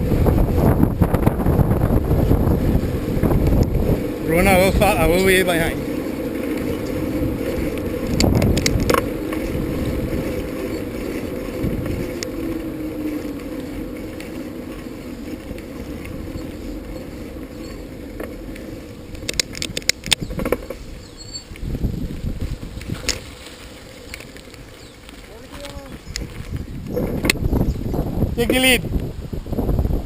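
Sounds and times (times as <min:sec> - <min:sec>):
tyre and wind noise: 0:00.0 - 0:30.0
bicycle sharp clicks: 0:01.1 - 0:27.8.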